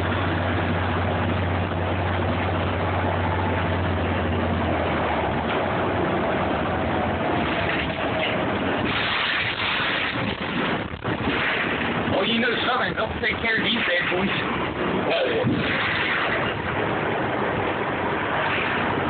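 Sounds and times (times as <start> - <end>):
bus drivetrain and road noise: 0.0 - 19.0
faint whine: 0.0 - 19.0
low hum: 0.0 - 19.0.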